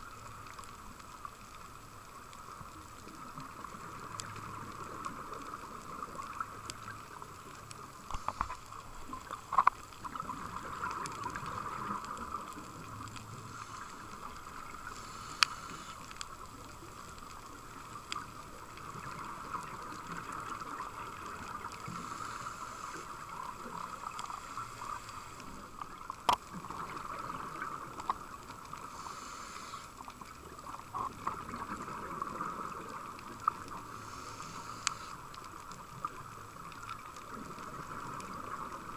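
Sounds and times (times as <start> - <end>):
regulator breathing and bubbles: 1.9 - 38.9.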